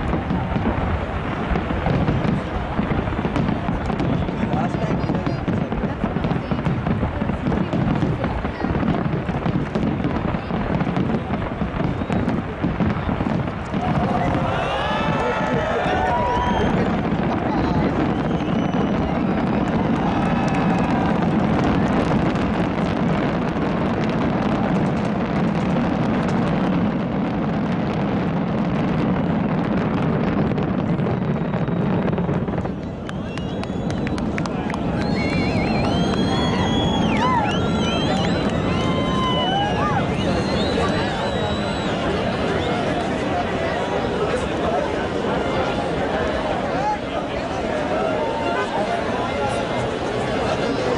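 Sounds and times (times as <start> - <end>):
fireworks crackling and banging: 0.0 - 50.9.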